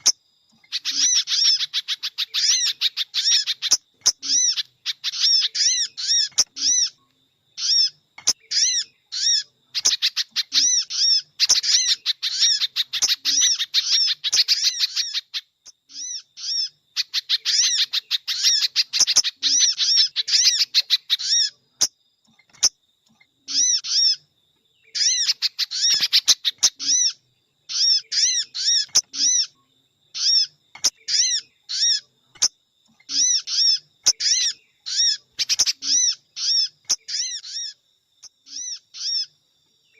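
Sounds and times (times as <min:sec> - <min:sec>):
sharp repeated bird chirping: 0:00.0 - 0:39.9.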